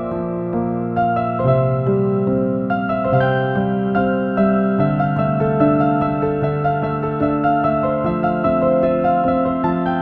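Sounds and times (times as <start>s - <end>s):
soft electric piano melody: 0.0s - 10.0s.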